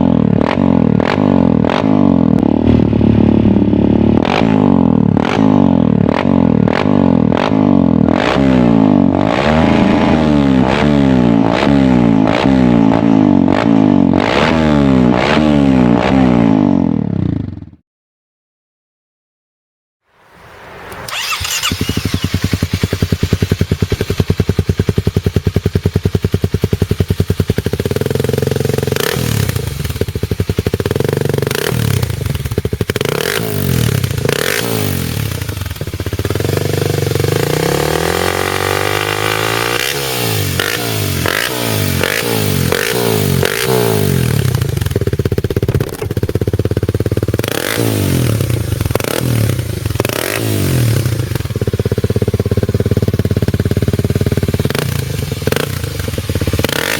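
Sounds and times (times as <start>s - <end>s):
engine running and revving: 0.0s - 17.6s, 21.0s - 56.9s.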